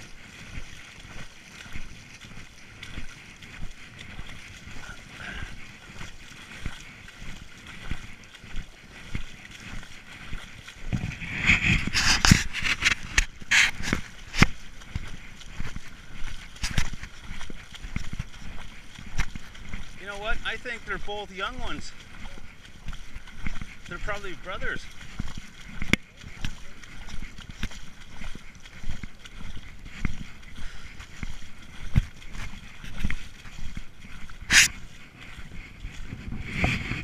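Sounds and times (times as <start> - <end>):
shallow river water lapping: 0.0 - 37.0.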